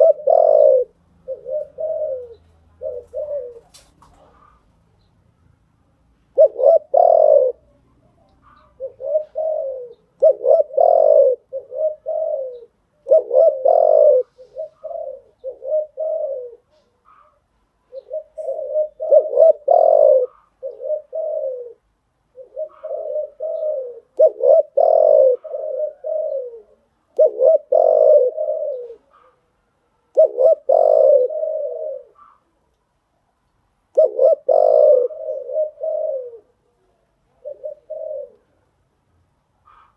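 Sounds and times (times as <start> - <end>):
dove cooing: 0.0 - 4.7, 6.3 - 32.6, 33.9 - 38.7, 39.6 - 39.9.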